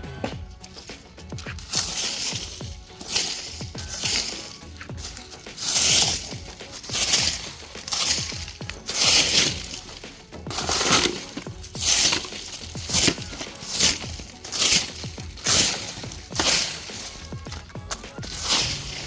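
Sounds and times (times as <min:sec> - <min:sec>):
dry leaves crunching and rustling: 0:00.4 - 0:19.0.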